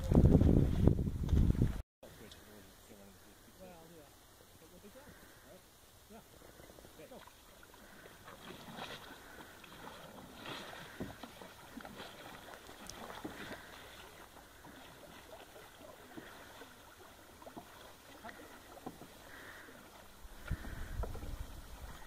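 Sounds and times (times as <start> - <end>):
faint water splashing: 2.0 - 22.0.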